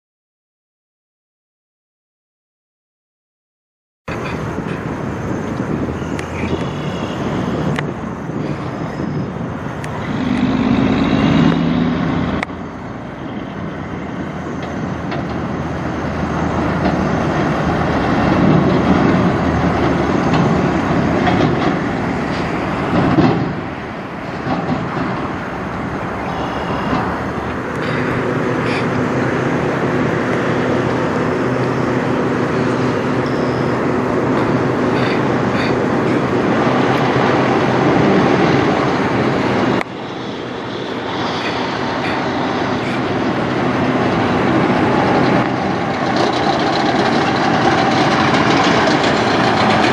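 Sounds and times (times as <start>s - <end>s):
truck diesel engines passing: 4.1s - 49.9s.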